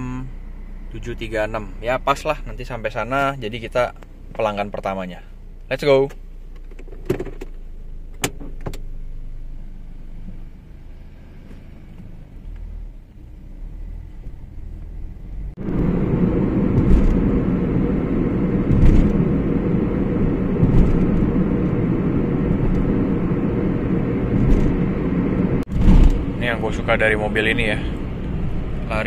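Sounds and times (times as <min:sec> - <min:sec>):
car engine rumble: 0:00.0 - 0:29.0
road and wind noise: 0:00.0 - 0:29.0.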